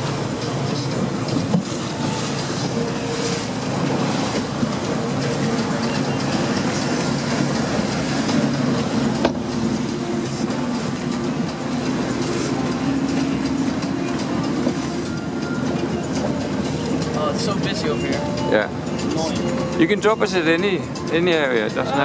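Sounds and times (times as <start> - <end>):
boat engine running: 0.0 - 22.0
water rushing along hull: 0.0 - 22.0.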